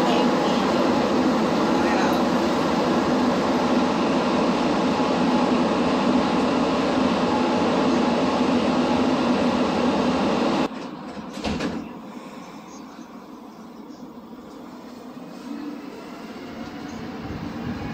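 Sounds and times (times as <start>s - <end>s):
train rumbling through tunnel: 0.0s - 17.9s.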